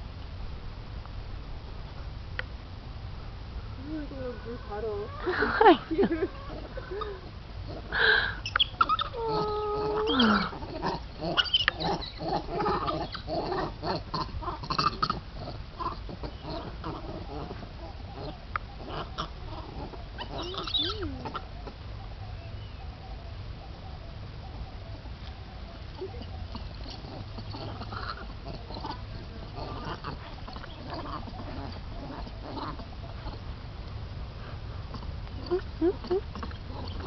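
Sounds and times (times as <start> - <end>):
monkeys calling: 4.2 - 33.4, 35.0 - 37.0.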